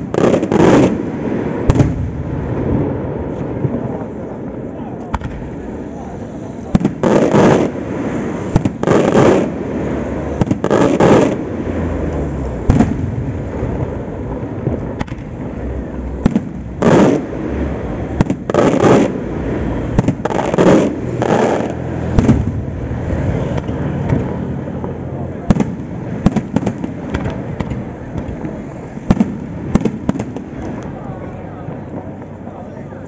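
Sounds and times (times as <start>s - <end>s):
sharp firework cracks: 0.0s - 4.0s, 5.0s - 31.0s
fireworks bangs: 0.0s - 33.0s.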